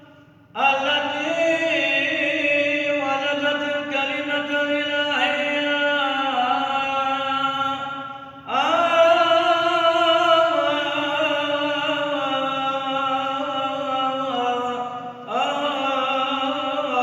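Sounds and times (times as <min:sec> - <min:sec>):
man chanting a hymn: 0:00.0 - 0:17.0.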